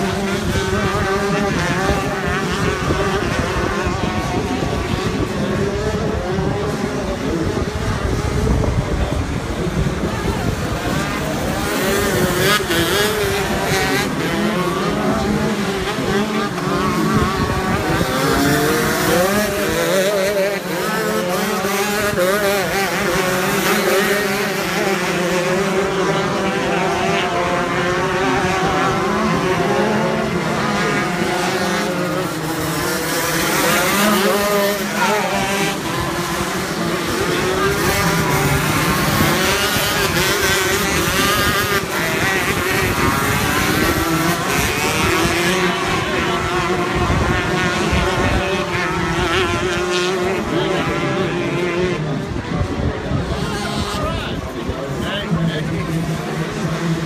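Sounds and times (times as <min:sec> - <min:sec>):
kart engines revving: 0:00.0 - 0:57.0.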